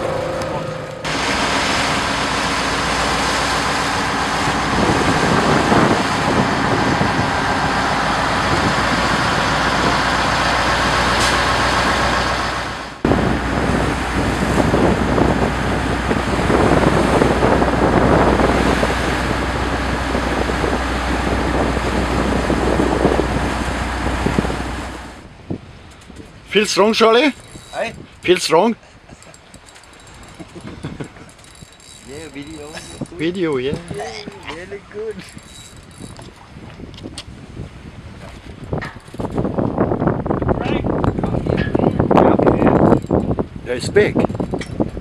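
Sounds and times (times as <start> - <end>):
water rushing: 0.0 - 36.8
boat engine humming: 0.0 - 45.0
wind: 0.0 - 45.0.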